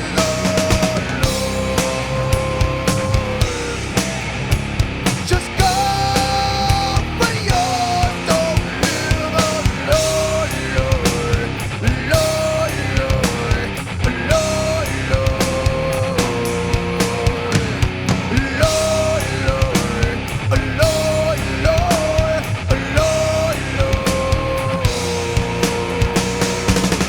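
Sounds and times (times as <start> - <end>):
drums: 0.0 - 27.0
heavy guitars: 0.0 - 27.0.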